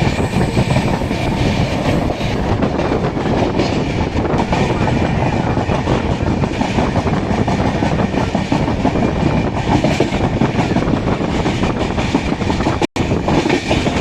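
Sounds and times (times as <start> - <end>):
train wheels on rail: 0.0 - 14.0.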